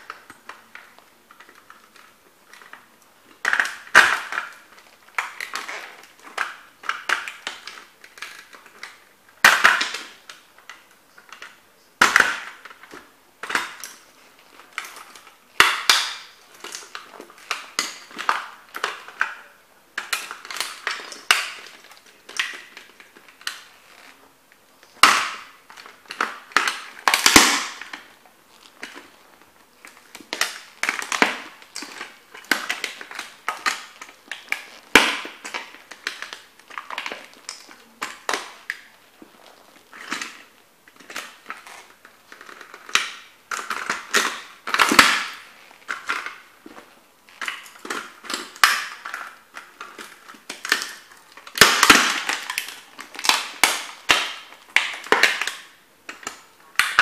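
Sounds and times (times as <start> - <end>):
toy car cracking and crunching: 0.0 - 24.2, 24.8 - 57.0.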